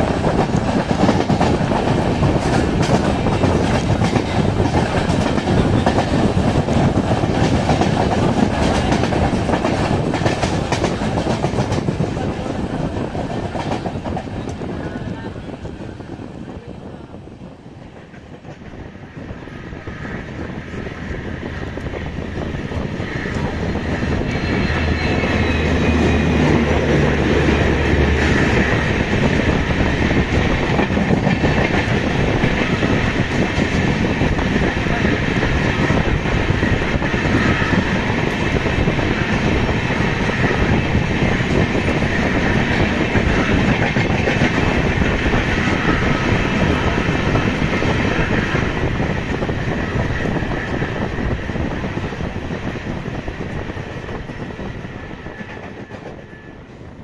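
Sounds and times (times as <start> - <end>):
train running on rails: 0.0 - 57.0.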